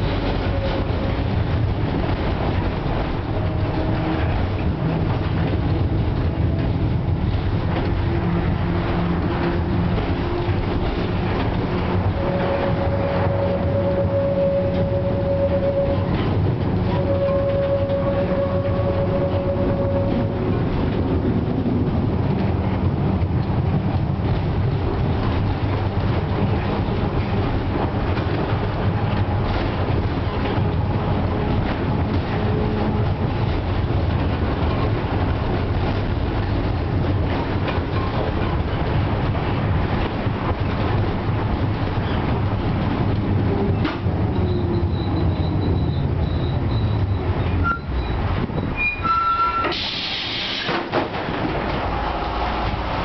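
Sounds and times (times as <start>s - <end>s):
tram wheels rumbling on rails: 0.0s - 53.0s
tram whine: 0.0s - 53.0s.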